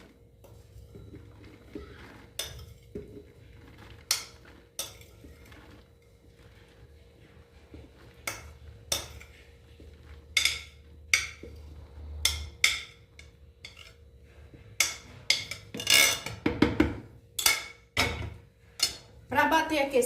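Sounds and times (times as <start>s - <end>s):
utensils and dishes clinking: 0.0s - 6.8s, 7.8s - 19.3s.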